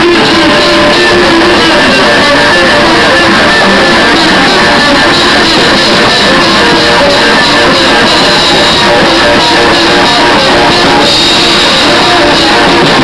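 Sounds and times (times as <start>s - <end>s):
instrumental metal music: 0.0s - 13.0s.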